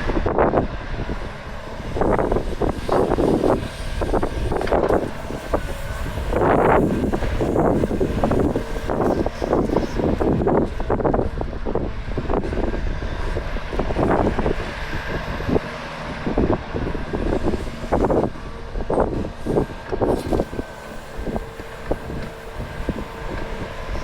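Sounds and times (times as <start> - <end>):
diesel machinery engine running: 0.0 - 24.0
machinery clatter: 0.0 - 24.0.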